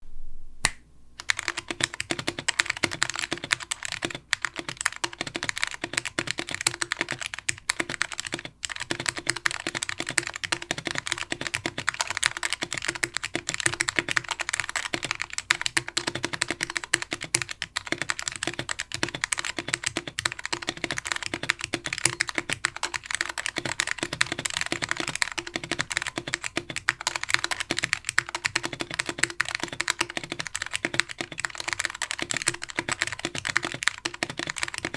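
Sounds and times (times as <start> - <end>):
mechanical keyboard typing: 1.2 - 34.9.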